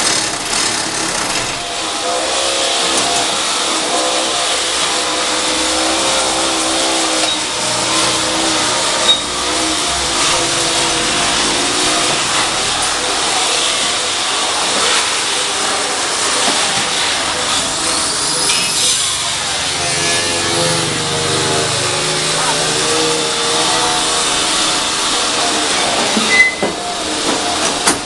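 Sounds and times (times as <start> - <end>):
loud mechanical rattle: 0.0 - 28.0
motor hum: 0.0 - 28.0.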